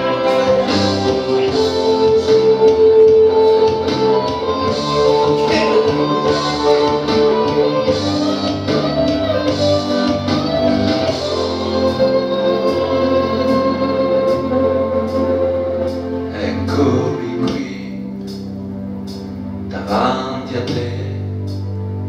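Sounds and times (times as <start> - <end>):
instrumental backing music: 0.0 - 22.0.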